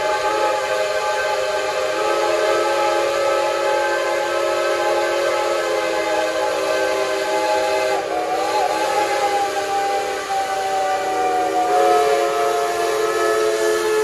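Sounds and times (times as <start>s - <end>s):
steam locomotive whistles: 0.0s - 14.0s.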